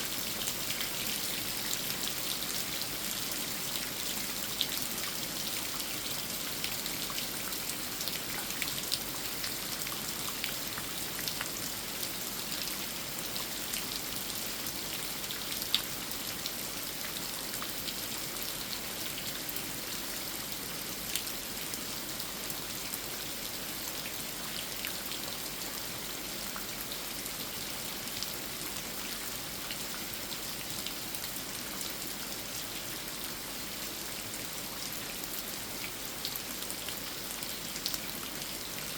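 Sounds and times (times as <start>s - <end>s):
steady rain on tree: 0.0s - 38.9s.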